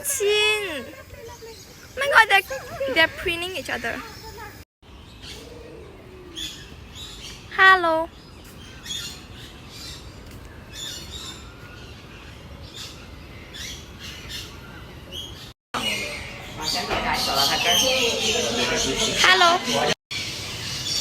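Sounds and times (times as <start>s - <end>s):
birds chirping and squawking: 0.0s - 21.0s.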